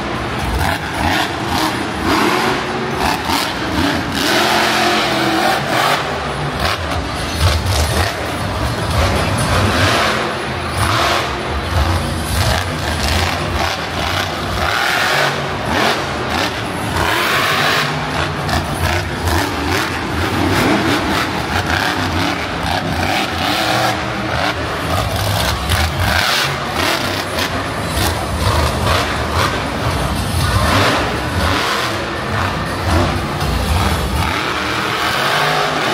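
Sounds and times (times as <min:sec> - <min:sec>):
truck engine revving: 0:00.0 - 0:35.9.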